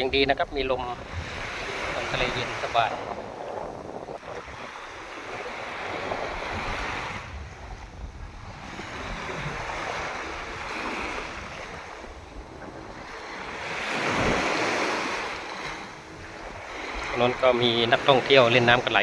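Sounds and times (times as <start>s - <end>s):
sea waves washing onto beach: 0.0s - 19.0s
wind rumbling on microphone: 0.0s - 19.0s.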